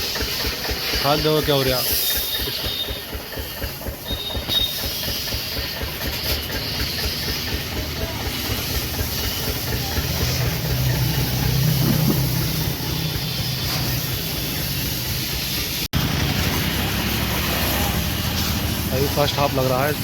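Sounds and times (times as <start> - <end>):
pressure washer jet hissing: 0.0 - 20.0.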